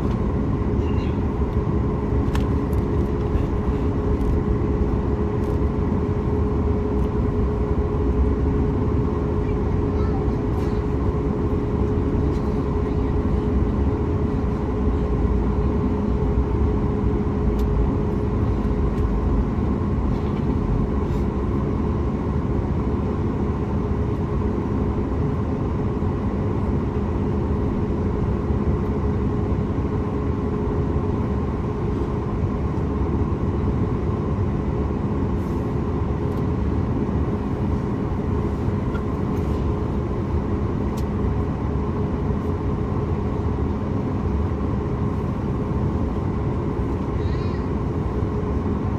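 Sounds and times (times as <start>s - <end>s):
aircraft cabin rumble and hum: 0.0s - 48.9s.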